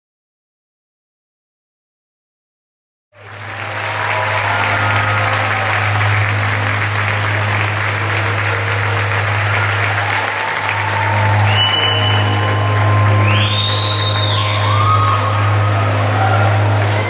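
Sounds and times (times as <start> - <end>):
audience applauding: 3.2 - 17.0.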